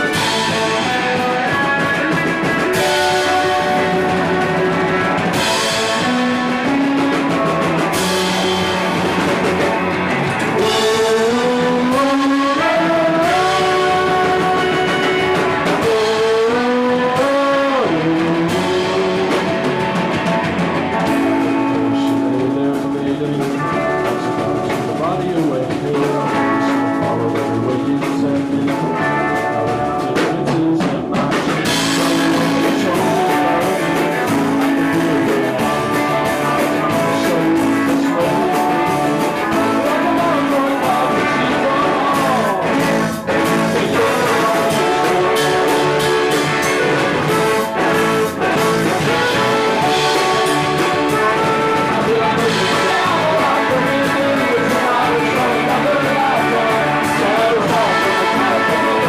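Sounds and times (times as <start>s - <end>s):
drums and cymbals: 0.0s - 59.0s
live rock band: 0.0s - 59.0s.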